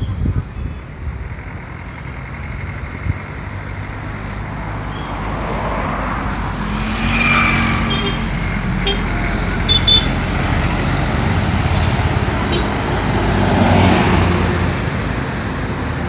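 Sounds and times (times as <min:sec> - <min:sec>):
passing vehicle engines: 0:00.0 - 0:16.0
motorcycles passing close: 0:01.4 - 0:16.0.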